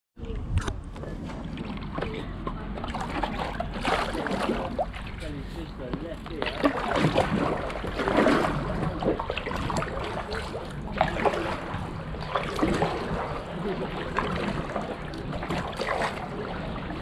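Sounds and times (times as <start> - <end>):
paddle strokes in water: 0.5 - 17.0
water washing along board: 1.1 - 17.0
water splashes and drips: 1.2 - 17.0.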